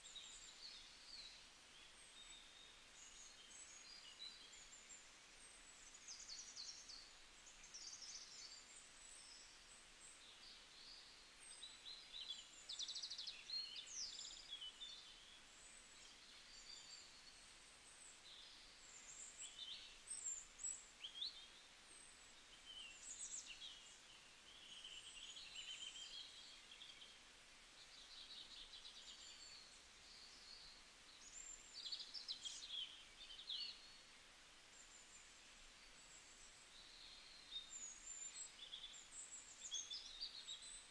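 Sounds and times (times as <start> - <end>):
low steady hiss: 0.0 - 40.9
small birds chirping: 0.0 - 40.9.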